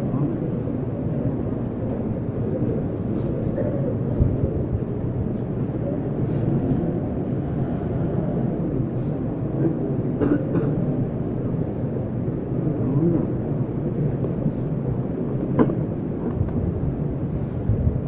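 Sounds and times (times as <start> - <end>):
murmuring voices: 0.0 - 10.8, 11.9 - 16.4
crowded hall rumble: 0.0 - 18.0.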